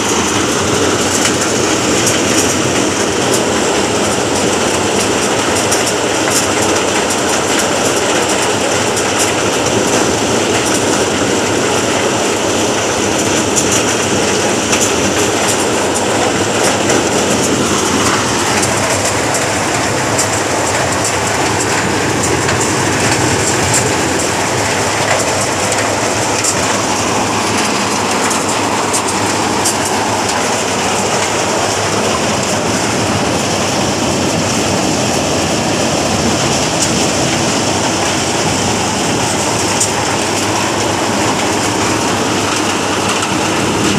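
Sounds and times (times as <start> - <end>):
maize thresher clattering: 0.0 - 43.9.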